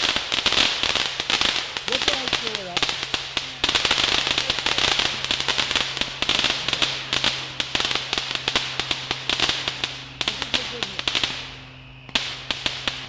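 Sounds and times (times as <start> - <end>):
fireworks cracking and popping: 0.0 - 13.0.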